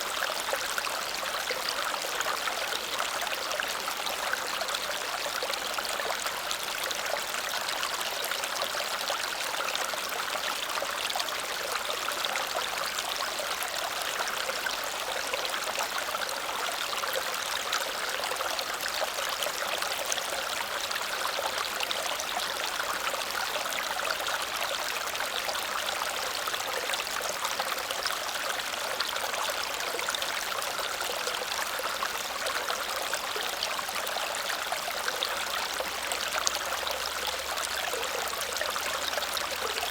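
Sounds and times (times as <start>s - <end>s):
small waterfall over rocks: 0.0s - 39.9s.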